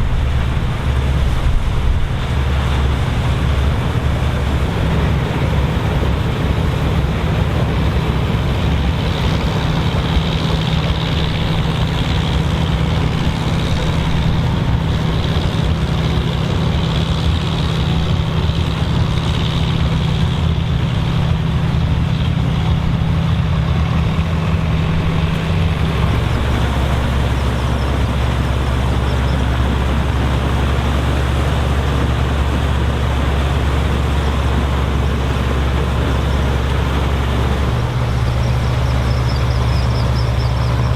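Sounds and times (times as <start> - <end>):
combine engine drone: 0.0 - 40.9
working harvester machinery: 0.0 - 40.9.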